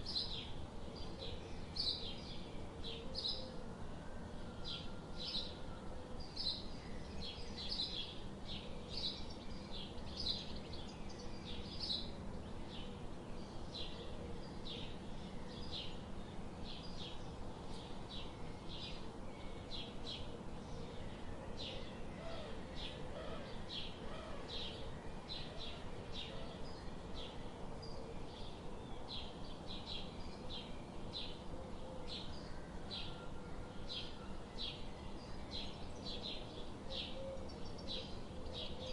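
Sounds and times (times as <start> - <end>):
low background hiss: 0.0 - 38.9.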